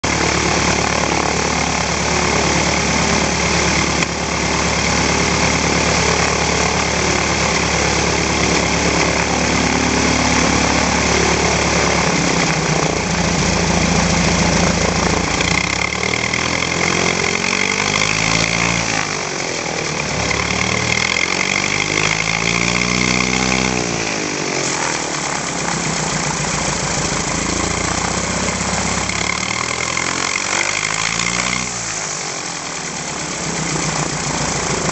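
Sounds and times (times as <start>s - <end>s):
light aircraft engine: 0.0s - 31.1s, 31.7s - 34.9s.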